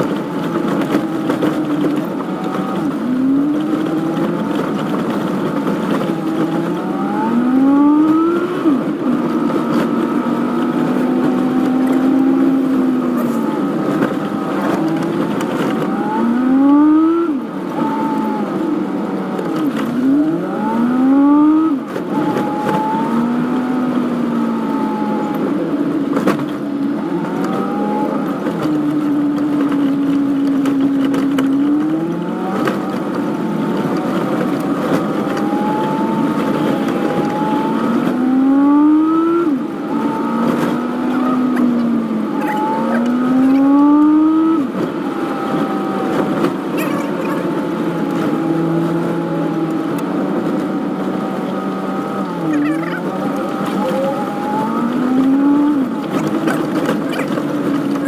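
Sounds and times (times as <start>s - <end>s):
car engine revving through gears: 0.0s - 58.0s
road noise: 0.0s - 58.0s.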